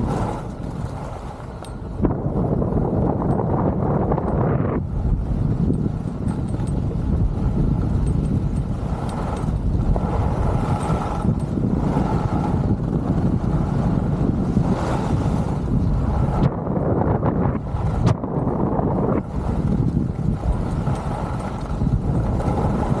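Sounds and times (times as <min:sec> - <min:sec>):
skis on packed snow: 0:00.0 - 0:02.8, 0:05.2 - 0:23.0
wind rush on microphone: 0:00.0 - 0:23.0.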